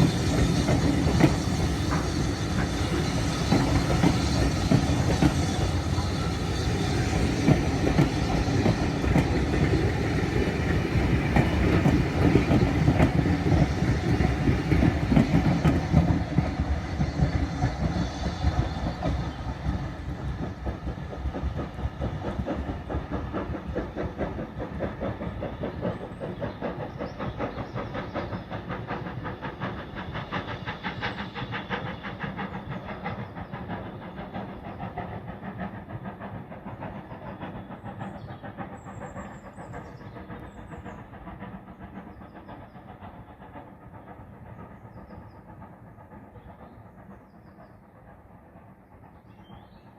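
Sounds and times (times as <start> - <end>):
train wheels clicking over rail joints: 0.0 - 49.9.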